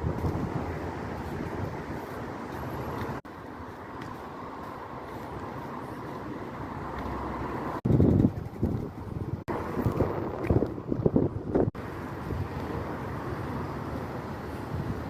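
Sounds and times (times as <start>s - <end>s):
vehicle noise: 0.0s - 15.0s.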